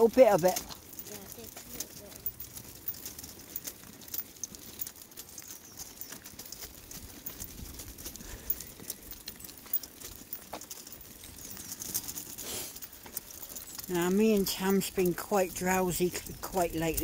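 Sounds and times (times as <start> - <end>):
footsteps on tarmac: 0.0 - 17.0.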